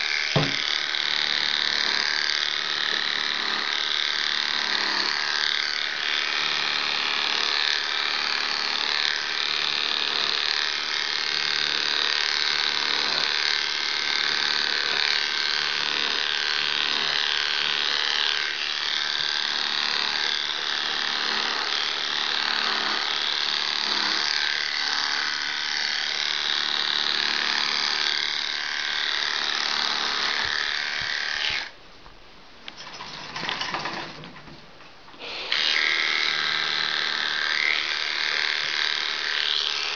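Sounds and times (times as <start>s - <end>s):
electric clippers buzzing: 0.0s - 31.8s, 35.2s - 39.9s.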